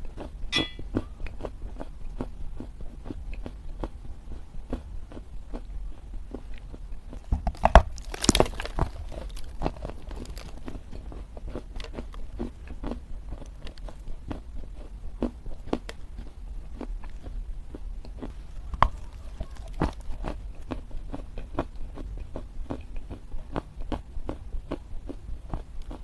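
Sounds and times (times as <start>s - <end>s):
dry clay crunching: 0.0s - 26.0s.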